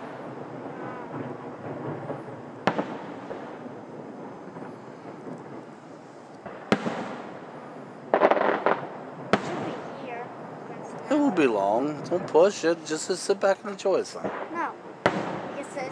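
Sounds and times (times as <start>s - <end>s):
crackling firework reports: 0.0s - 15.9s
distant firework booms: 0.0s - 15.9s
firework bangs: 0.0s - 15.9s.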